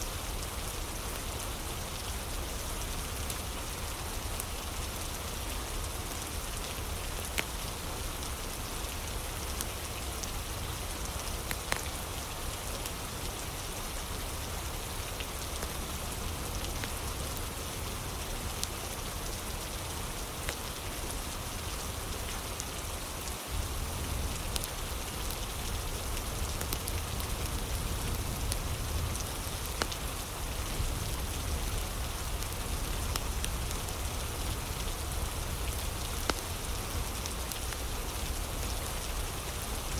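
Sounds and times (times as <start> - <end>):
steady rain: 0.0 - 39.9
fire crackling: 0.2 - 22.7, 23.5 - 39.9.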